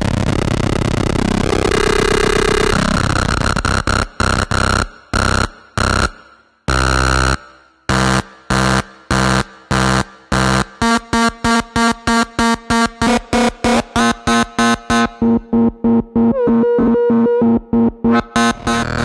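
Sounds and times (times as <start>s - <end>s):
harsh buzzing synth drone: 0.0s - 19.0s.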